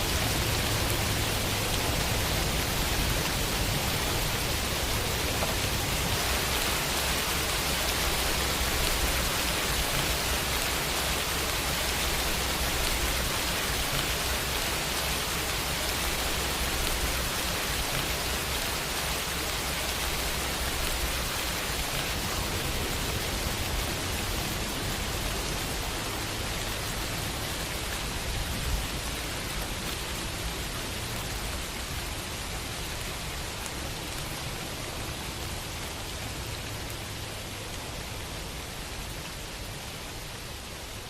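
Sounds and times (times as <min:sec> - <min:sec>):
rain on a window pane: 0:00.0 - 0:41.0.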